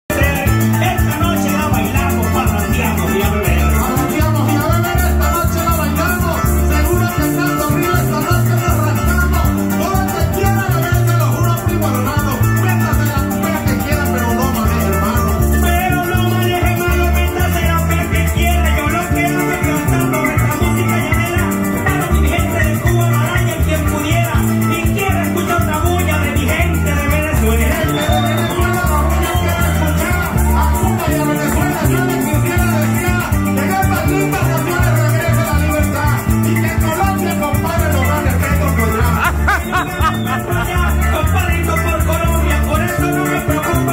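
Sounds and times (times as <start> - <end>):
man singing into microphone: 0.0 - 43.9
maracas shaking: 0.1 - 43.9
small guitar strumming: 0.1 - 43.9.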